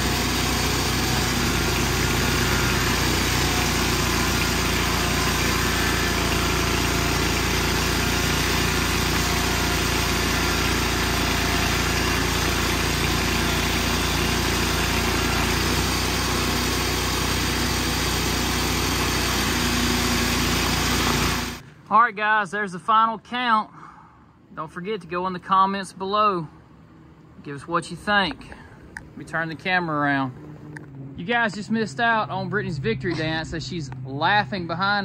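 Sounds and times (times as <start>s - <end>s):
sawmill engine running: 0.0s - 21.6s, 26.6s - 35.0s.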